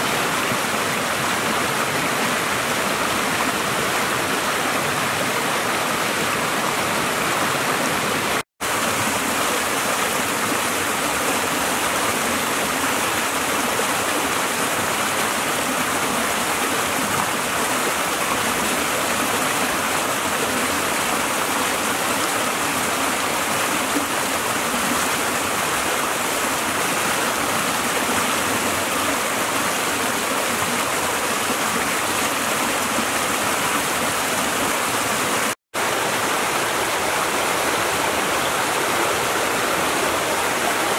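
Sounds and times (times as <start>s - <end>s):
creek rushing over boulders: 0.0s - 40.9s.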